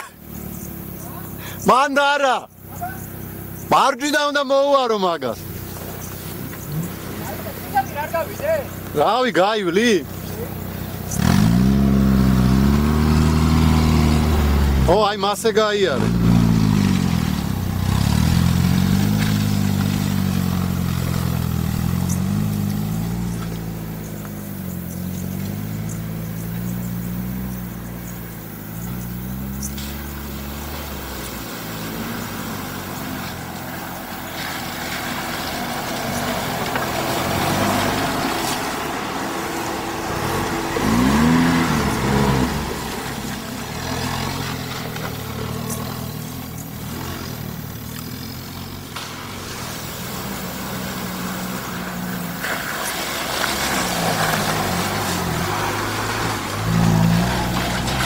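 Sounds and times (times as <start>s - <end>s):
off-road engines revving: 0.0s - 58.0s.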